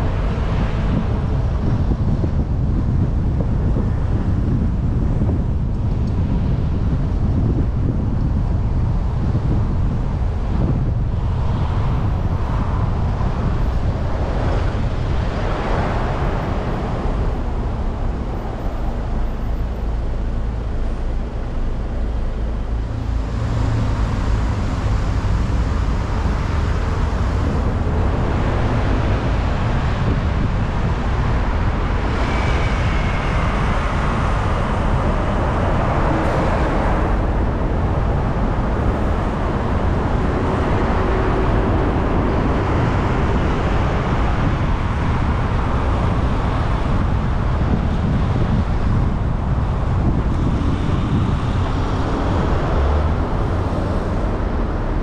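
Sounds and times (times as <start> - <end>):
tyre and engine rumble: 0.0 - 55.0
vehicles passing: 0.0 - 55.0.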